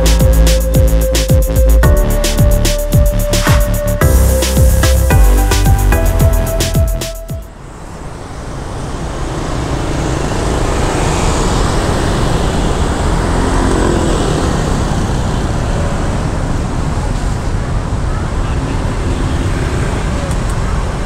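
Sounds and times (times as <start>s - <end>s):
dense traffic rumble: 0.0s - 21.0s.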